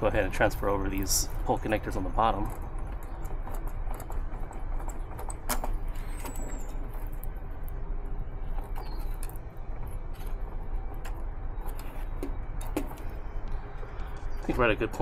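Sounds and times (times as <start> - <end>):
low background rumble: 0.0 - 15.0
wire rustling: 0.9 - 14.8.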